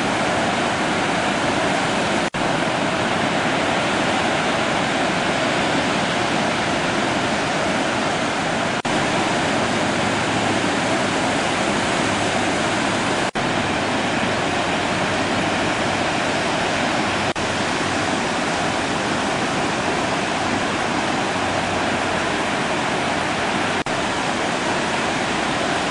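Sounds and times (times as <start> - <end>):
ocean surf: 0.0 - 25.9
wind: 0.0 - 25.9.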